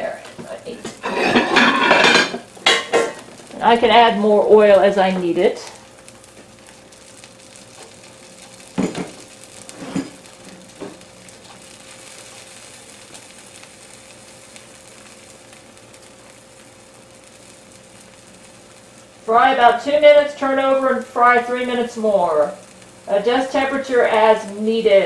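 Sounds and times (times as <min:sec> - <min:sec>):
patties sizzling in oil: 0:00.0 - 0:25.0.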